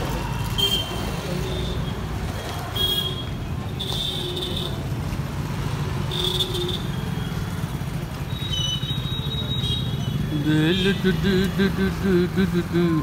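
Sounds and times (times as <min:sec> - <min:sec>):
motorbike and scooter engines: 0:00.0 - 0:13.0.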